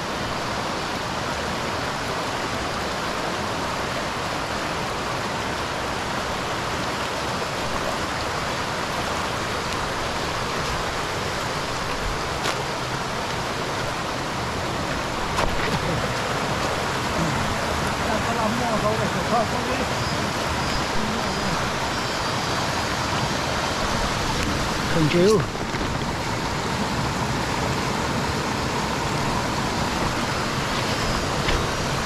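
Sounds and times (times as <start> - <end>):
running water rushing: 0.0 - 32.0.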